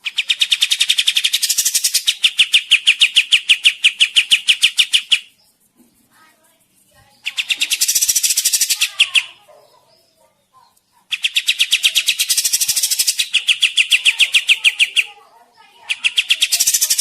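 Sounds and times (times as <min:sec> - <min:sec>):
flycatcher singing rapid notes: 0:00.0 - 0:10.2, 0:11.1 - 0:17.0.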